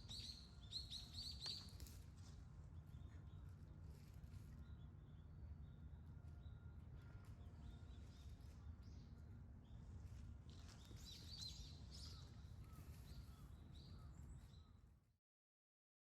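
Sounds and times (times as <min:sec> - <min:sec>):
low steady outdoor rumble: 0:00.0 - 0:15.1.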